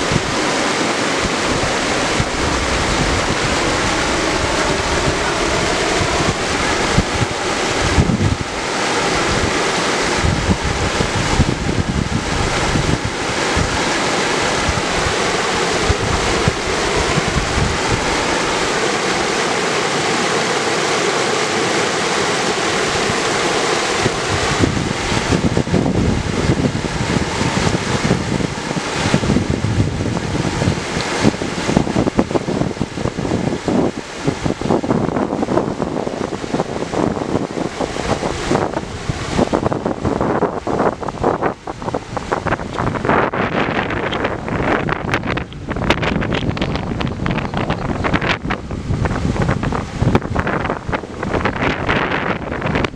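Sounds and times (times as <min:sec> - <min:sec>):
river rushing over rocks: 0:00.0 - 0:52.9.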